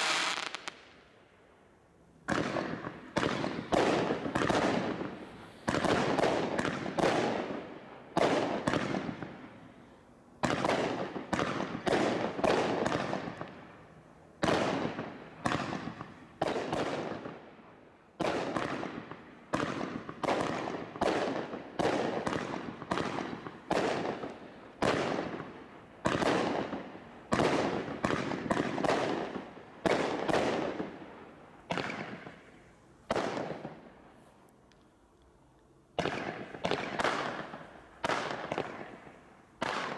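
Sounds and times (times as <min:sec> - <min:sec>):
firework bangs: 0:00.0 - 0:01.0, 0:02.2 - 0:09.6, 0:10.4 - 0:13.6, 0:14.4 - 0:17.4, 0:18.2 - 0:31.0, 0:31.6 - 0:33.9, 0:36.0 - 0:39.9.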